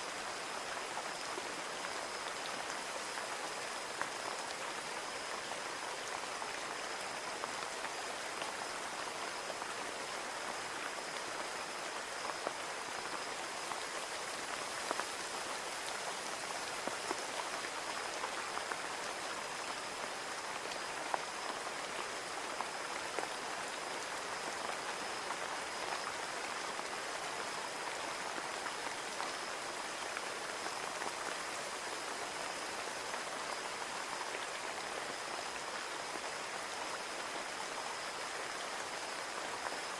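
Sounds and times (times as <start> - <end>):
rain pattering on a window: 0.1 - 39.9.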